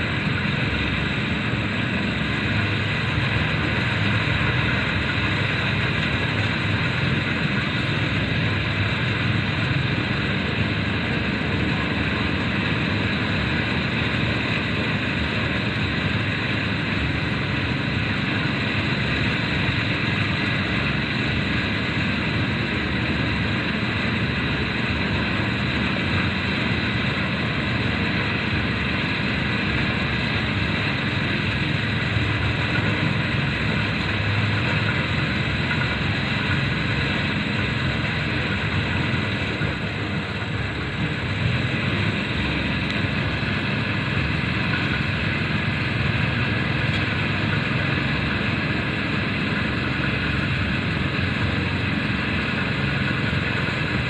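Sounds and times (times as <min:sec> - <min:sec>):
thresher engine running: 0:00.0 - 0:54.0.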